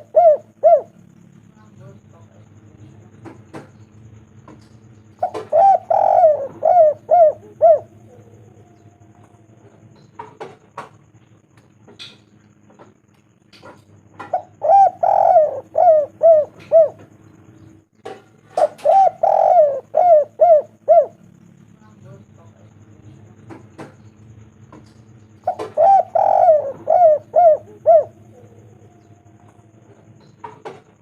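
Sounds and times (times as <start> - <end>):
dove cooing: 0.0 - 1.5, 2.2 - 11.3, 13.6 - 21.6, 24.7 - 31.0.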